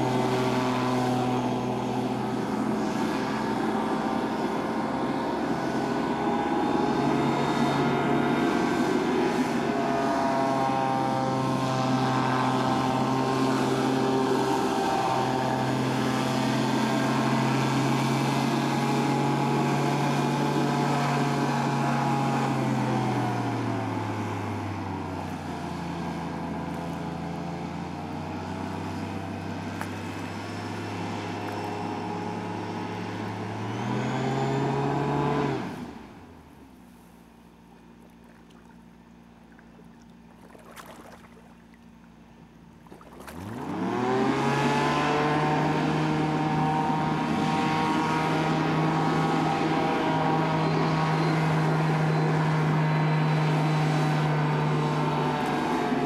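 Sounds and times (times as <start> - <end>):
hovercraft engine and fan drone: 0.0 - 56.0.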